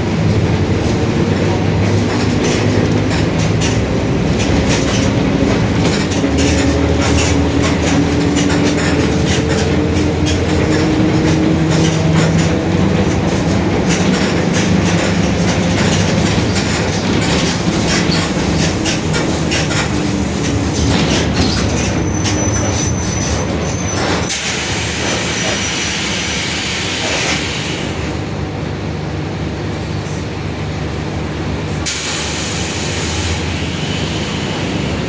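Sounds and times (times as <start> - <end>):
bus differential droning: 0.0 - 35.0
bus rattling: 0.0 - 35.0.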